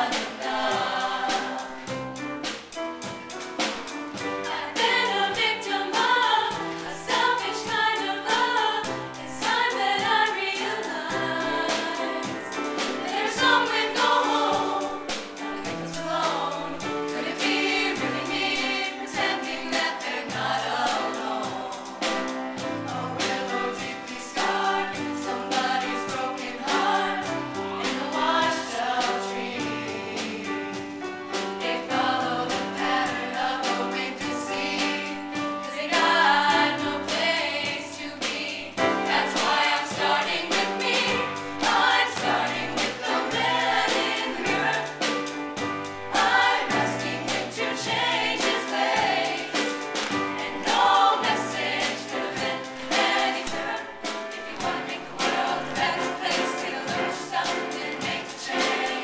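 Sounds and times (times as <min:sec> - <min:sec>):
choir singing in harmony: 0:00.0 - 0:59.0
instrumental accompaniment with beat: 0:00.0 - 0:59.0.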